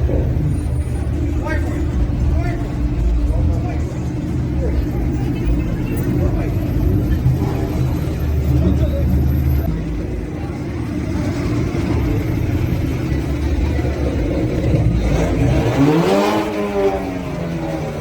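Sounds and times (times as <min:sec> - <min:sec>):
car engine and exhaust revving: 0:00.0 - 0:18.0.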